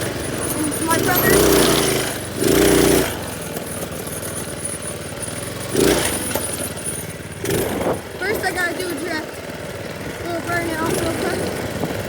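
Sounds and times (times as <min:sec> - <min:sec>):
small engine revving: 0:00.0 - 0:12.0.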